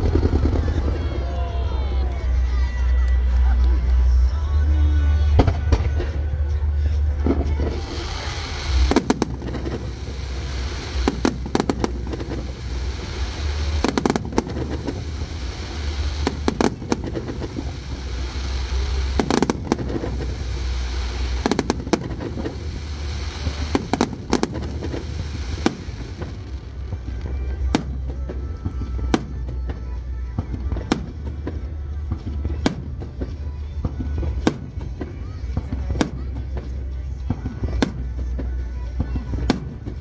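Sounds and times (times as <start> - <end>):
fireworks crackling: 0.0 - 40.0
fireworks shells bursting: 7.1 - 40.0.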